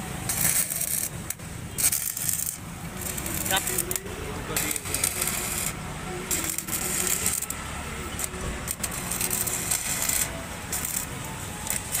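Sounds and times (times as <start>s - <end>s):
arc welder crackling and sizzling: 0.0s - 12.0s.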